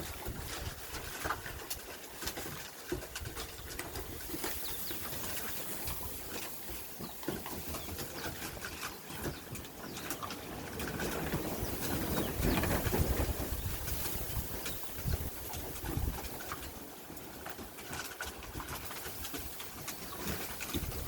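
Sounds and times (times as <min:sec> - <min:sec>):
puppies crunching dry kibble: 0:00.0 - 0:21.0.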